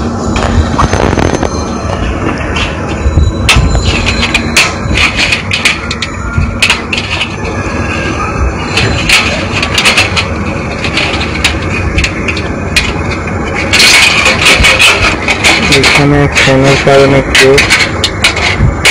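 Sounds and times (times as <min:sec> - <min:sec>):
metal shield clicking and scraping: 0:01.9 - 0:07.9, 0:08.6 - 0:18.9.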